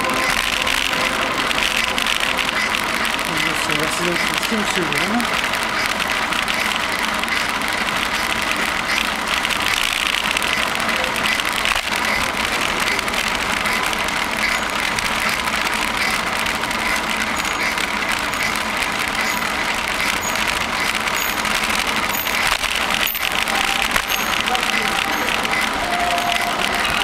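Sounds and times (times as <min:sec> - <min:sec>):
bicycle rushing through tunnel: 0:00.0 - 0:27.0.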